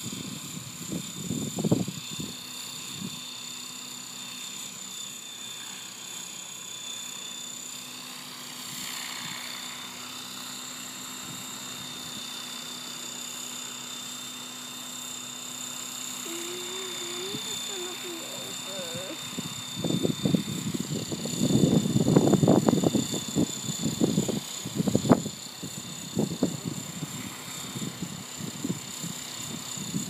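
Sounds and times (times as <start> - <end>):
model helicopter motor whine: 0.0 - 30.0.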